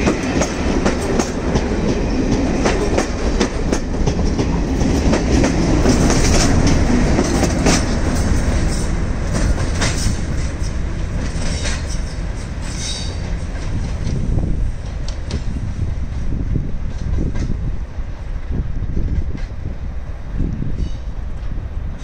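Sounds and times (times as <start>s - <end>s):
train wheels clicking over rail joints: 0.0s - 17.7s
diesel locomotive passing: 0.0s - 22.0s
train rumble: 0.0s - 22.0s.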